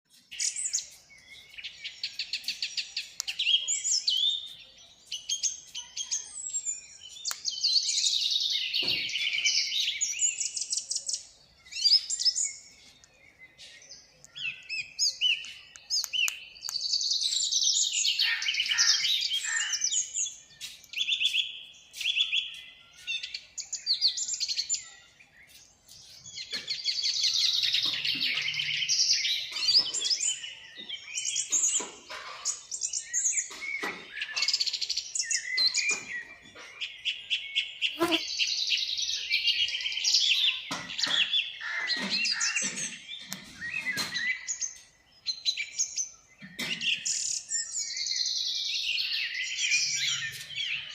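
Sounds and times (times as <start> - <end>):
birds chirping and chattering: 0.1 - 50.9.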